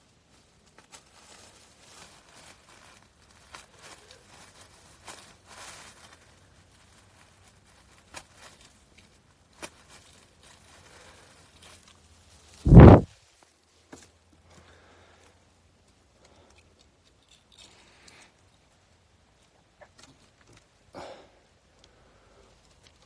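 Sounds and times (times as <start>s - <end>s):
hands rustling dry leaves: 0.0s - 23.0s.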